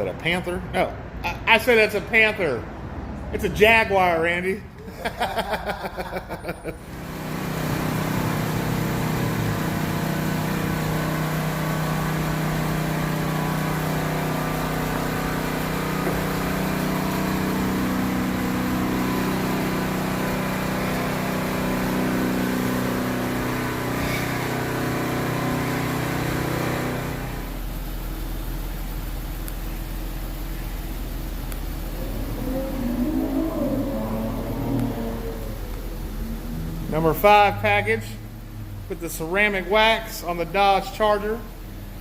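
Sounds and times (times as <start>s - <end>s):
motor running with hum and hiss: 5.0s - 42.0s.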